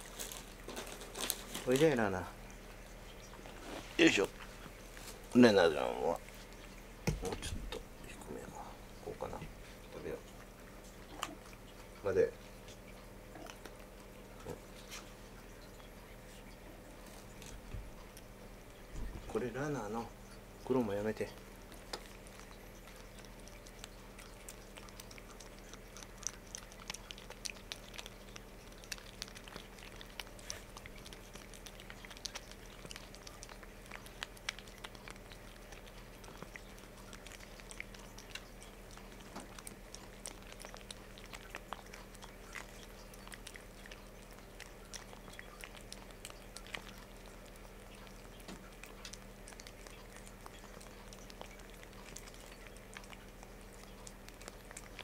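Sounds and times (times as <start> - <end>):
cat licking with wet smacks: 1.4 - 55.0.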